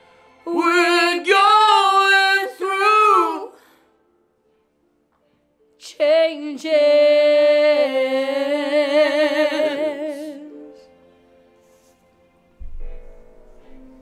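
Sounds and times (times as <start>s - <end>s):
soft backing music: 0.0s - 14.0s.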